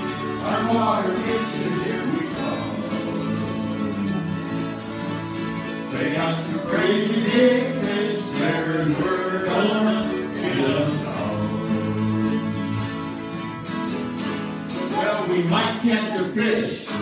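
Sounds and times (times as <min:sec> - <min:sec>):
group singing: 0:00.0 - 0:13.3, 0:14.8 - 0:17.0
acoustic guitars: 0:00.0 - 0:17.0.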